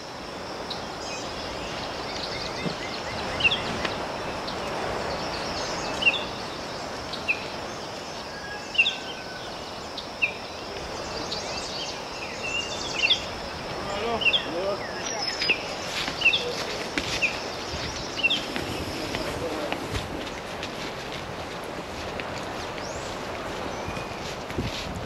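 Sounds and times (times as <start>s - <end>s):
steady background hiss: 0.0s - 25.0s
small birds chirping: 0.6s - 20.8s, 22.4s - 25.0s.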